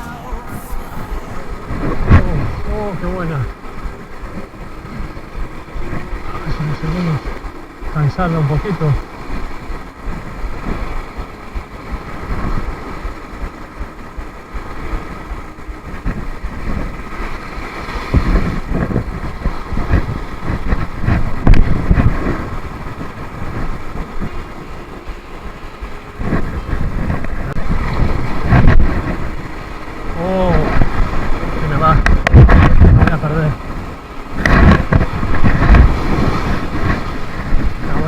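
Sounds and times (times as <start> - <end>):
heavy surf: 0.0 - 38.0
wind buffeting microphone: 0.0 - 38.0.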